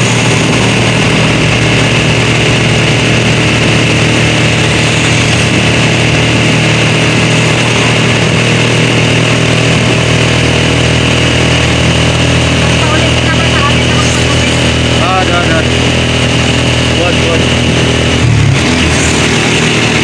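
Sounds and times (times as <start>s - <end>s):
road and wind noise: 0.0s - 20.0s
vehicle engine running steadily: 0.0s - 20.0s.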